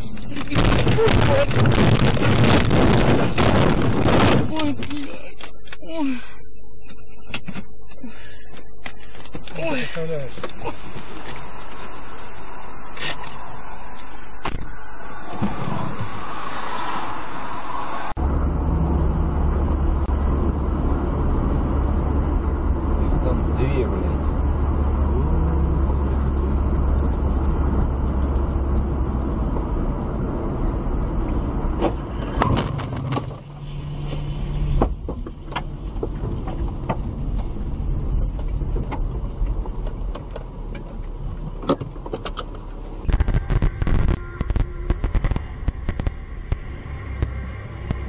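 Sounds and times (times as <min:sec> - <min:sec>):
car engine and tyre rumble: 0:00.0 - 0:48.0
uneven traffic noise: 0:08.0 - 0:48.0.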